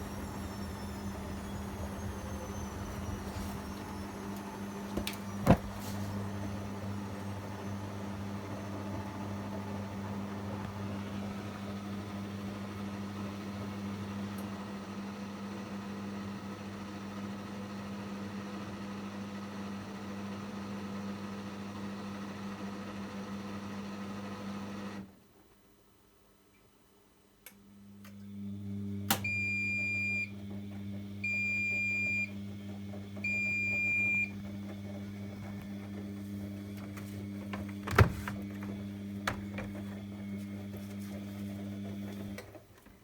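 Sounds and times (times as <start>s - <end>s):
washing machine humming: 0.0s - 22.6s, 27.7s - 43.0s.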